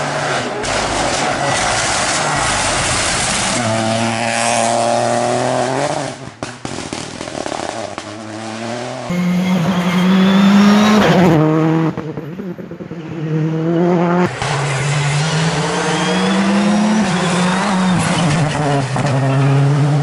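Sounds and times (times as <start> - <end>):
rally car engines at full throttle: 0.0 - 20.0.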